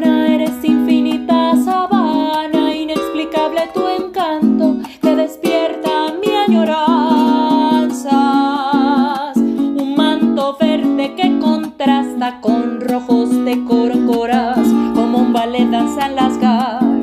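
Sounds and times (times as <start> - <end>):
strummed string instrument: 0.0 - 17.0
woman singing: 0.0 - 17.0.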